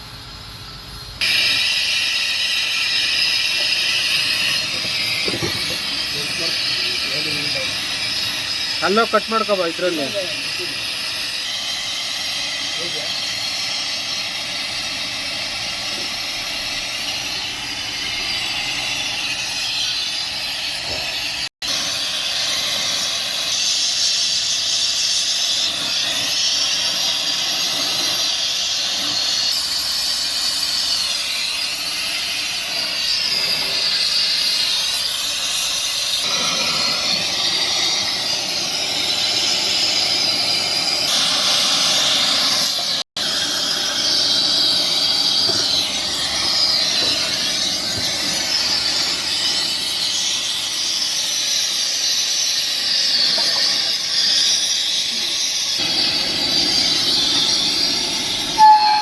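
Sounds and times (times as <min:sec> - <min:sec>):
welding arc sizzling: 0:00.0 - 0:59.0.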